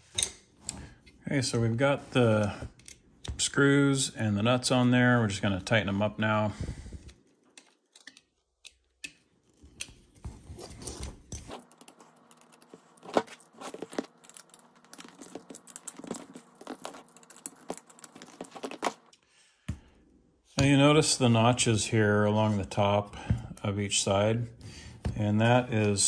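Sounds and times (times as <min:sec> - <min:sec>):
faint steady hum: 0:00.1 - 0:26.0.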